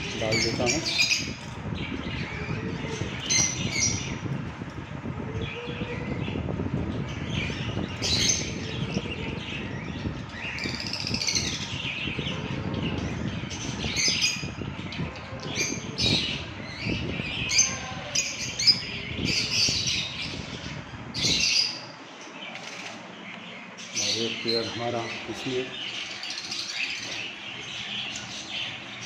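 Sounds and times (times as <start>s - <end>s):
parrots chirping and squawking: 0.0s - 29.0s.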